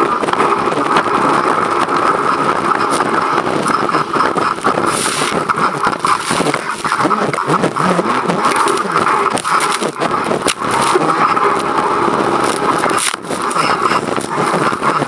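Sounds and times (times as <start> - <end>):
jet ski engine drone: 0.0 - 15.0
wind buffeting microphone: 0.0 - 15.0.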